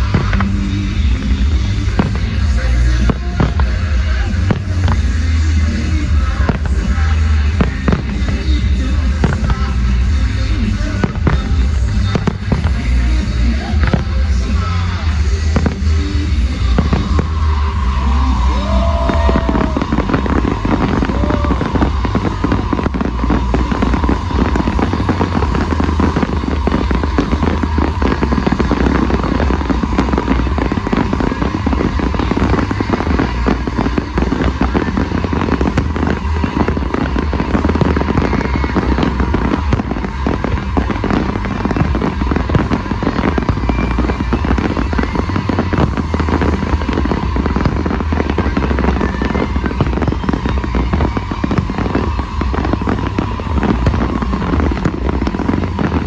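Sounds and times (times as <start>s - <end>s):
deep rumble: 0.0s - 56.0s
fireworks crackling and popping: 0.0s - 56.0s.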